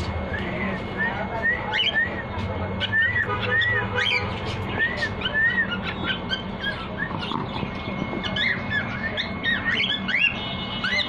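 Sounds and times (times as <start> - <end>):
cockatiels whistling: 0.3 - 11.0
cockatiels chirping: 0.4 - 11.0.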